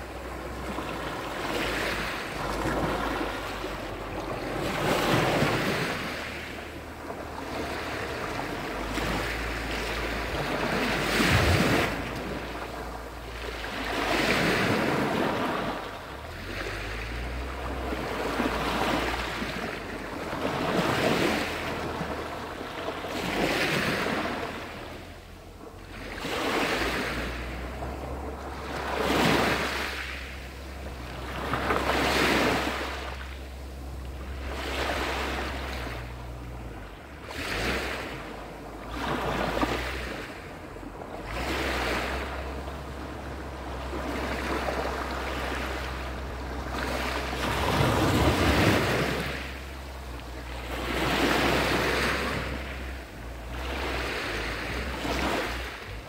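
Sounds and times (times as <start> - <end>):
surf on pebble beach: 0.0 - 56.0.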